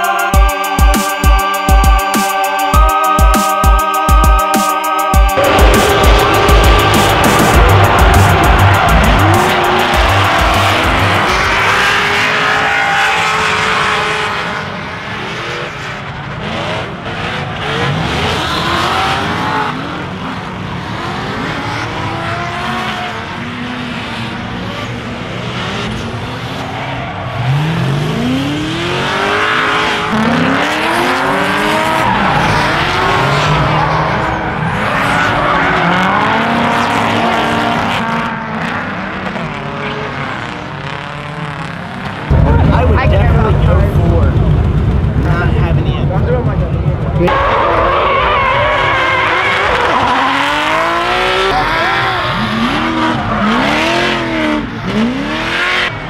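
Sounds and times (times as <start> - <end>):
car engines revving: 5.4 - 56.0.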